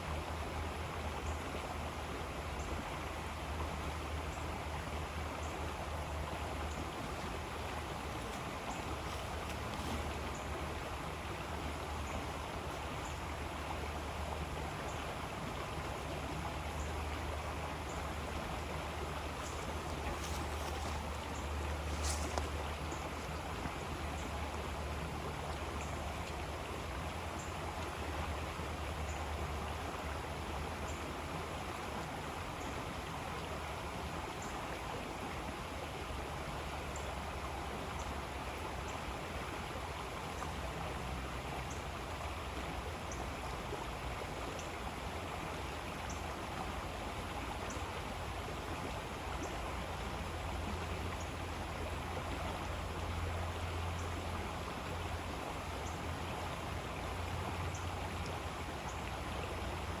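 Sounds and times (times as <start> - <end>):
river water rushing: 0.0 - 60.0.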